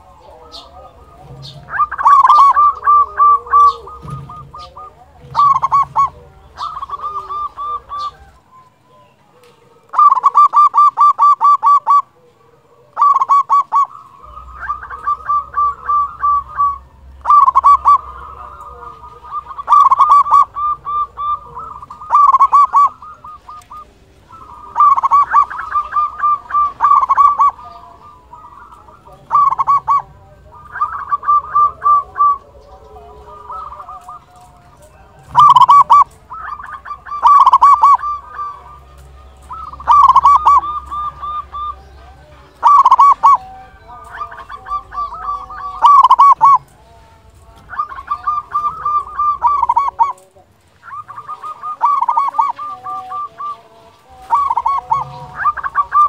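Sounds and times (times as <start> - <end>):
dove rapid staccato cooing: 0.0 - 56.0.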